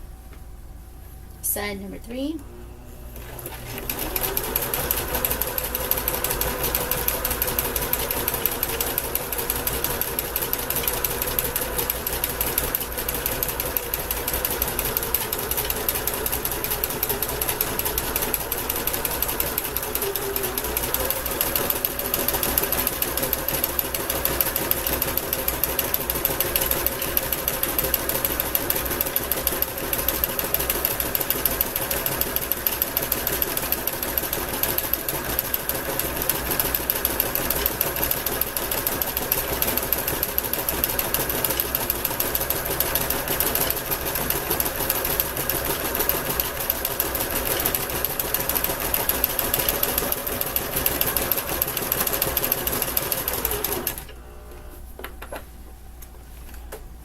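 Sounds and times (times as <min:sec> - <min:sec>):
electric sewing machine running: 0:03.0 - 0:54.7.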